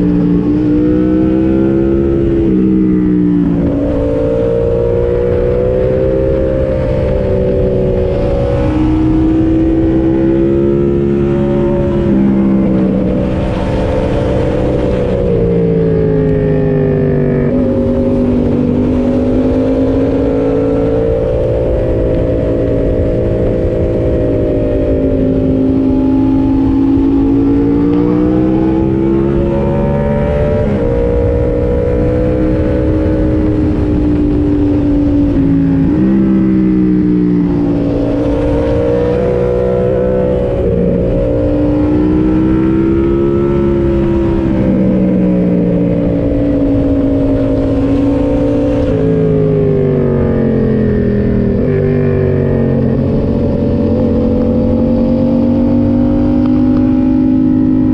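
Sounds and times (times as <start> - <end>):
motorcycle engine revving: 0.0 - 57.9
road and wind noise: 0.0 - 57.9.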